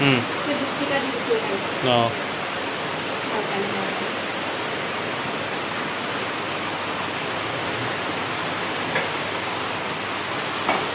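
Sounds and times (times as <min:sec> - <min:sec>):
heavy rain falling: 0:00.0 - 0:10.9.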